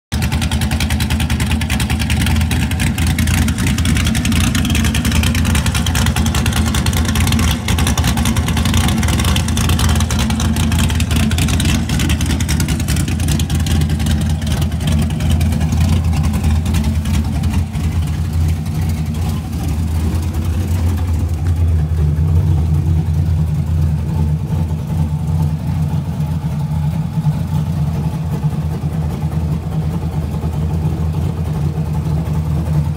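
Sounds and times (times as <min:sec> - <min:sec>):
loud lumpy engine idling: 0:00.1 - 0:32.9.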